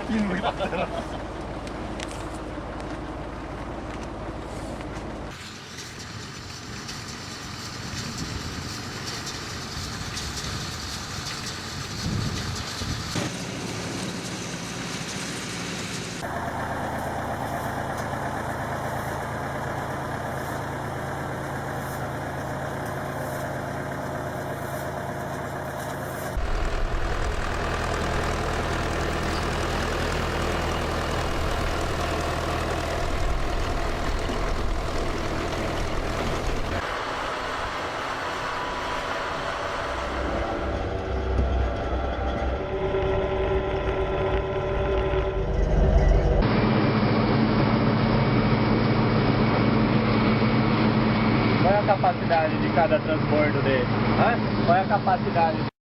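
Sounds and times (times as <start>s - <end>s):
farm machinery engines running: 0.0s - 55.7s.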